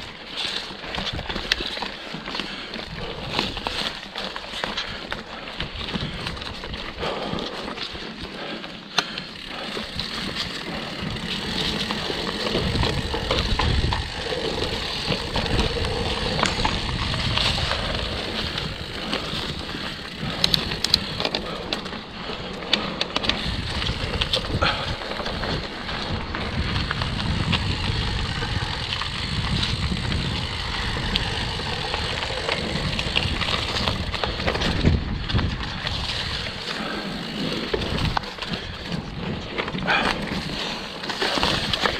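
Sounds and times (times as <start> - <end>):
bike clicks and knocks: 0.0 - 41.9
bike tyres rolling over dirt: 0.0 - 41.9.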